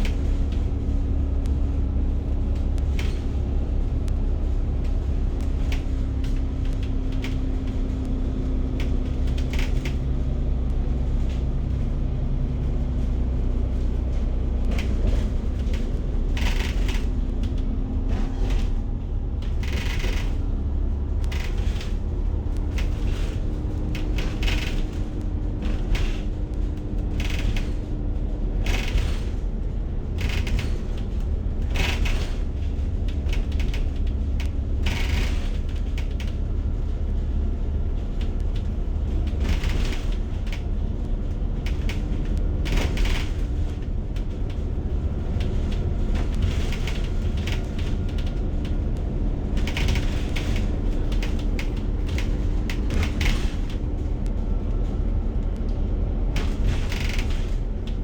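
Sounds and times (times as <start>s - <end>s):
bus body rattling and creaking: 0.0s - 58.0s
bus engine and road rumble: 0.0s - 58.0s.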